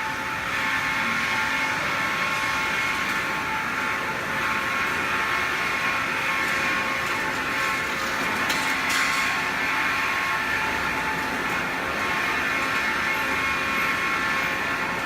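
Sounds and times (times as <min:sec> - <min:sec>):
bandsaw running with whine: 0:00.0 - 0:15.0.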